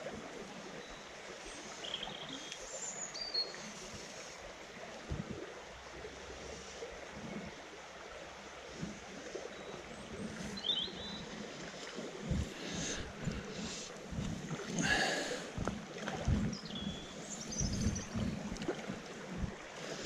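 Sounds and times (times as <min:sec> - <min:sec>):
river running over stones: 0:00.0 - 0:20.0.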